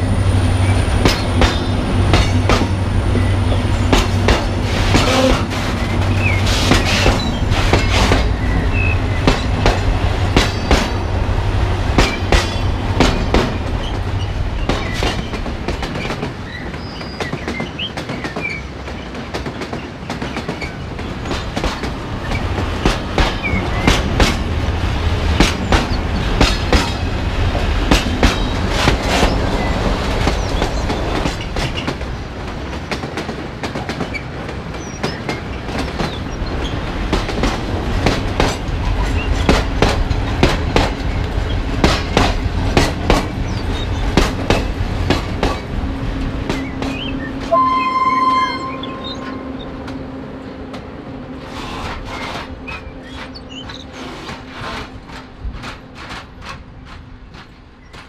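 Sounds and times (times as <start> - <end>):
train wheels clicking over rail joints: 0.0 - 47.6, 49.3 - 58.0
train low rumble: 0.0 - 58.0.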